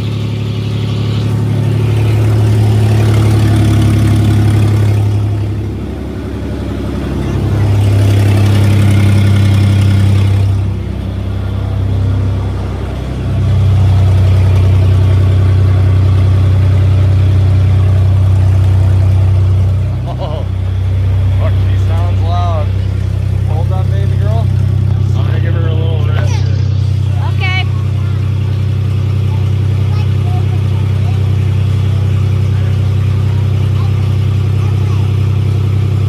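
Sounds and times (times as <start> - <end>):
unmuffled car engine running: 0.0 - 36.0.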